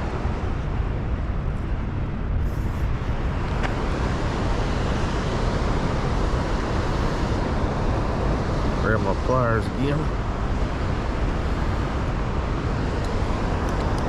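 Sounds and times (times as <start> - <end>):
water rushing below a dam: 0.0 - 14.0.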